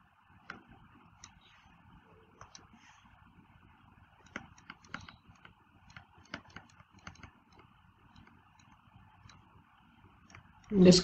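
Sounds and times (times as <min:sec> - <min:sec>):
stylus tapping on pen tablet: 0:00.4 - 0:01.5, 0:02.3 - 0:03.3, 0:03.9 - 0:10.7.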